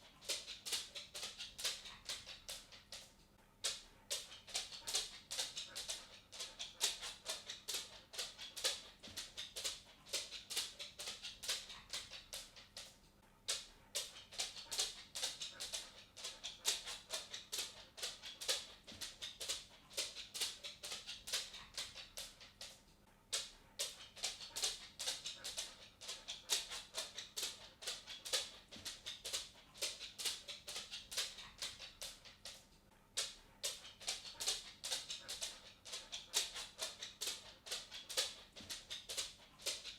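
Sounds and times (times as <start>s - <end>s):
dog claws clicking on wooden floor: 0.0s - 39.9s.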